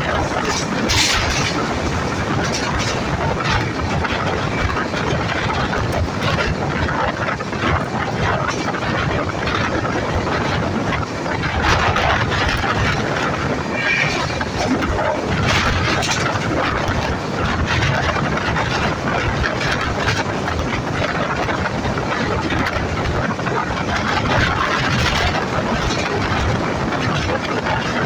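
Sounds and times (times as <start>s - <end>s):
train wheels on rails: 0.0s - 28.0s
wheels clicking over rail joints: 0.0s - 28.0s
wind rushing: 0.0s - 28.0s.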